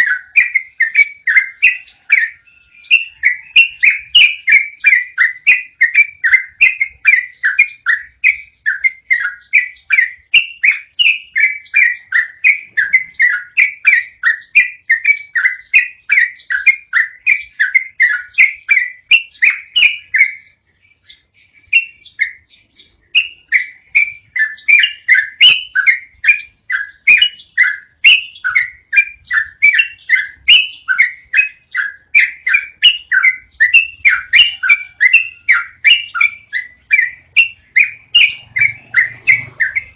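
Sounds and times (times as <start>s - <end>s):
bulbul singing chirpy whistles: 0.0s - 39.9s.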